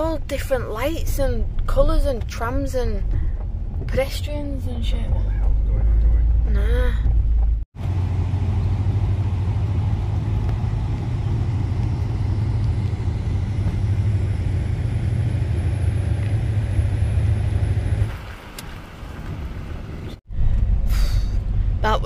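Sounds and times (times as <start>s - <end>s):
engine and tyre road rumble: 0.0s - 22.0s.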